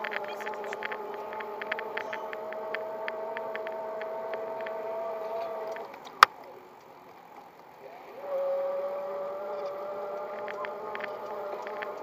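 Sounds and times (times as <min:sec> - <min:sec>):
electric motor whining: 0:00.0 - 0:06.0, 0:07.9 - 0:12.0.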